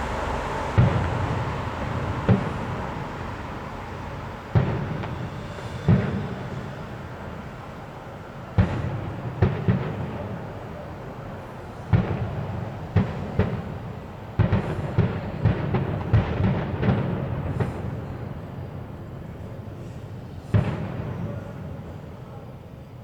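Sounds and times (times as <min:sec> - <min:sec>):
fireworks bangs with rumbling echo: 0:00.0 - 0:23.0.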